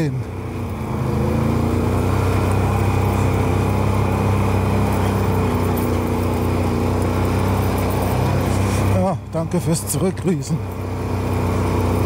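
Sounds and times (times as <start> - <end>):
quad engine running: 0.0 - 12.0.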